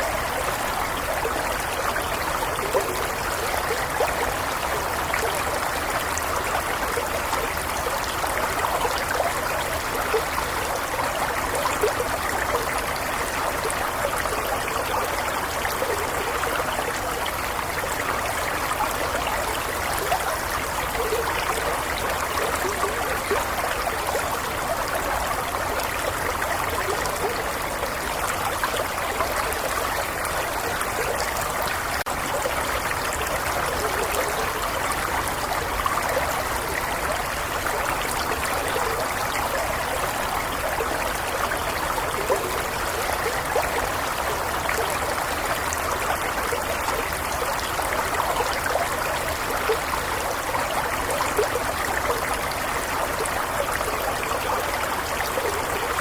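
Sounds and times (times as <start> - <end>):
stream water trickling over stones: 0.0 - 56.0.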